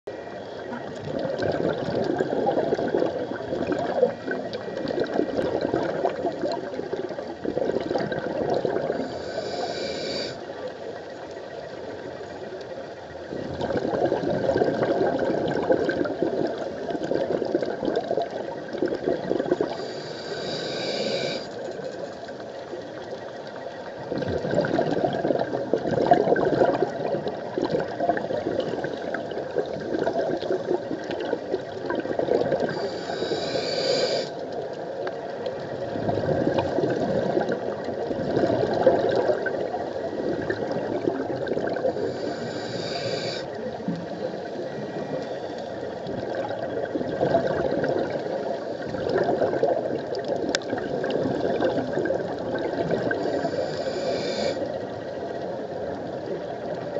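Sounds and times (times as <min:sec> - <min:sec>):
underwater bubbles gurgling: 0:00.1 - 0:56.9.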